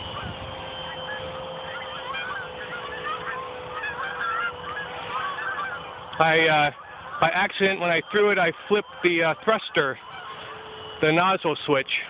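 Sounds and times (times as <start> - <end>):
faint model jet whine: 0.0 - 12.0
geese honking: 0.0 - 12.0.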